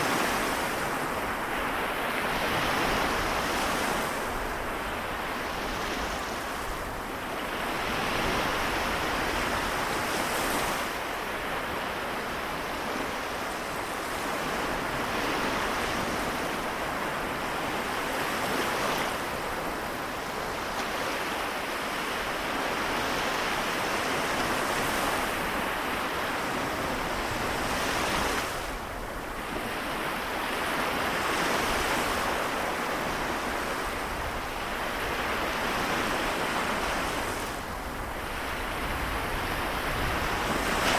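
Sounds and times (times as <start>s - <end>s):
small waves washing onto shore: 0.0s - 40.9s.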